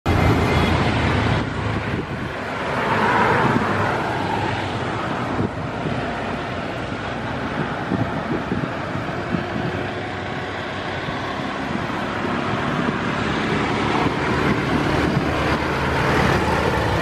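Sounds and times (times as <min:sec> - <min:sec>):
steady outdoor roar: 0:00.0 - 0:17.0
wind buffeting microphone: 0:00.1 - 0:17.0.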